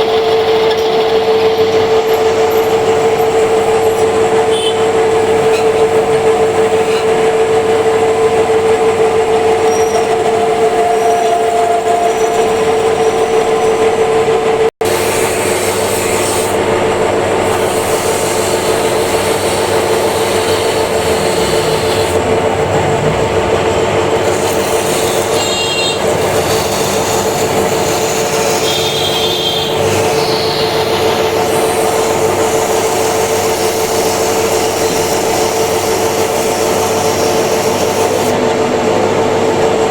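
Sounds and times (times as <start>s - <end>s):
metal lathe cutting: 0.0s - 39.9s.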